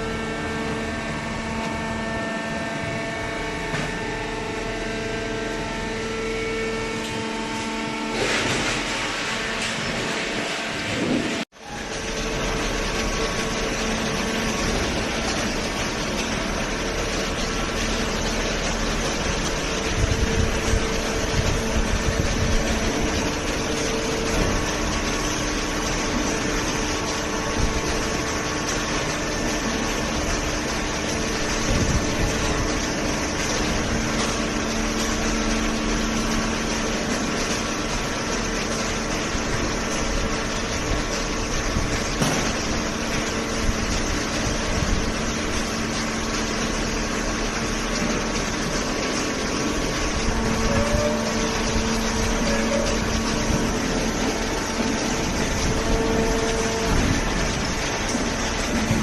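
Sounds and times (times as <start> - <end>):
hydraulic baler motor humming: 0.0 - 59.0
heavy low rumbling: 8.0 - 59.0.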